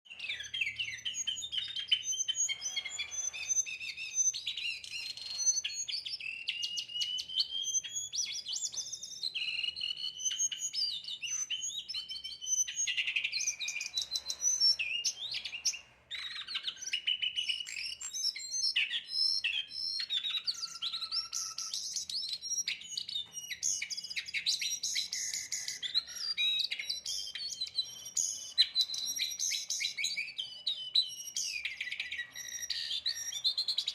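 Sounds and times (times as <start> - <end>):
songbird chirping and whistling: 0.0 - 33.9.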